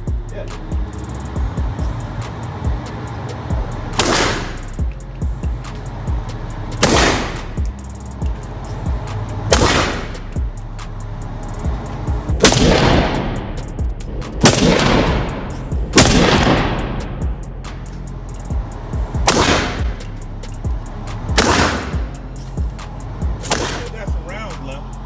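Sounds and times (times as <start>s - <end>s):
gunshots with echo: 0.4s - 10.9s, 12.1s - 13.6s, 14.3s - 18.2s, 19.0s - 24.9s.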